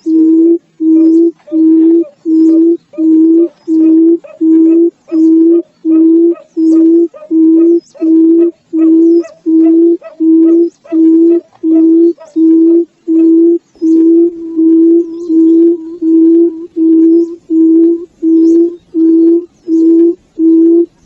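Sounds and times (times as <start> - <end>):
bird low booming hoots: 0.0 - 21.0.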